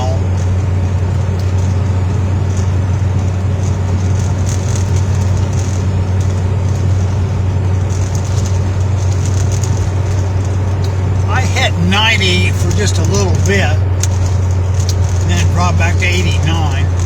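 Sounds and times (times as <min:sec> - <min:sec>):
engine hum inside vehicle: 0:00.0 - 0:17.0
tyre noise on road: 0:00.0 - 0:17.0.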